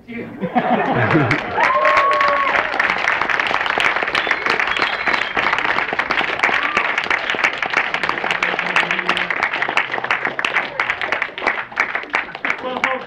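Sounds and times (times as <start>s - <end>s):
audience applauding: 0.8s - 13.0s.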